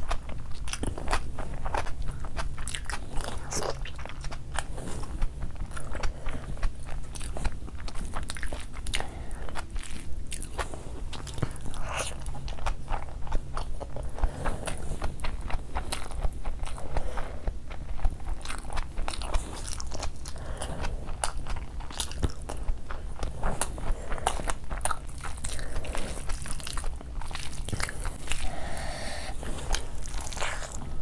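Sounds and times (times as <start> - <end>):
person chewing wetly: 0.0 - 31.0.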